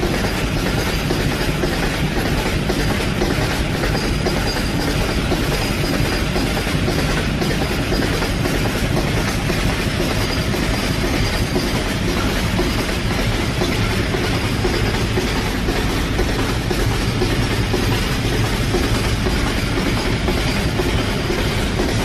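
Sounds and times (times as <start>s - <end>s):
freight wagon wheels on rails: 0.0s - 22.0s.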